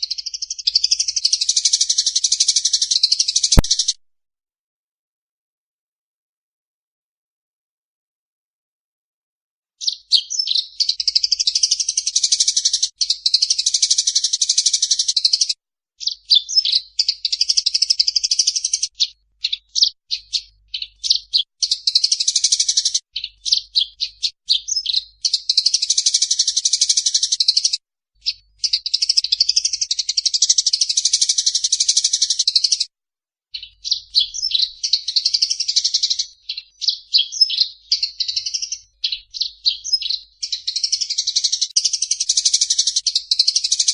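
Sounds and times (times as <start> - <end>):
sparrows chattering: 0.0 - 4.0, 9.8 - 32.9, 33.5 - 43.9.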